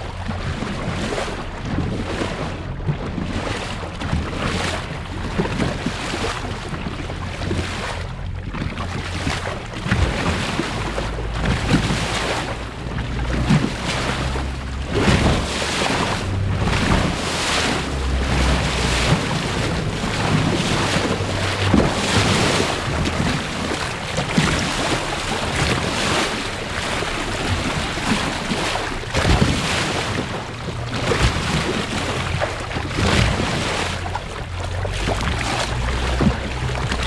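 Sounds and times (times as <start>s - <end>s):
water rushing along boat hull: 0.0s - 37.0s
wind buffeting microphone: 0.0s - 37.0s.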